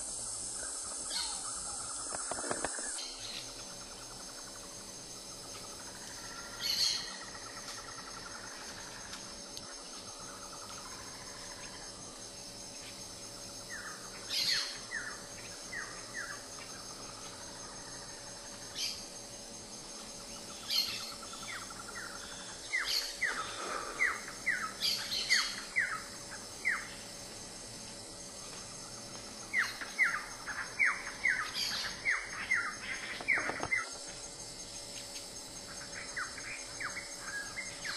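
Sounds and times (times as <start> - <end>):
high-pitched insect drone: 0.0 - 37.9.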